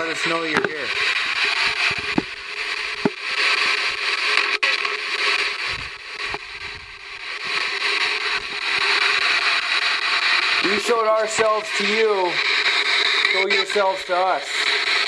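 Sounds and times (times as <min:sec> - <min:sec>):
radio static sweeping stations: 0:00.0 - 0:15.0.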